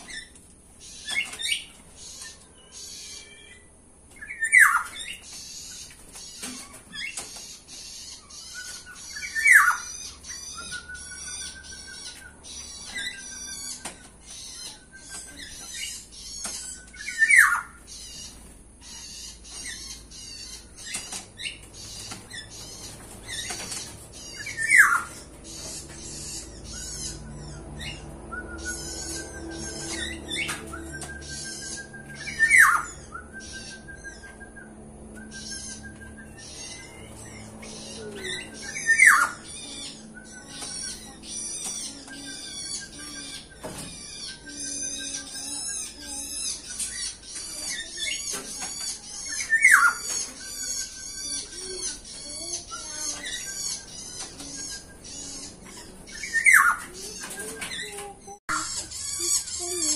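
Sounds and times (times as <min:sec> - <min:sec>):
high bird chirping: 0:00.0 - 0:59.9.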